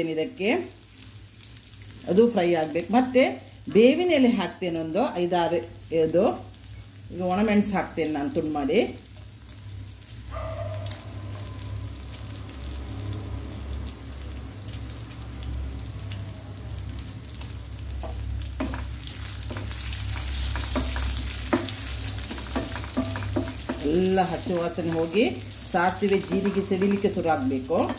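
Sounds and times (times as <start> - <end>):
oil sizzling in a frying pan: 0.0 - 27.9.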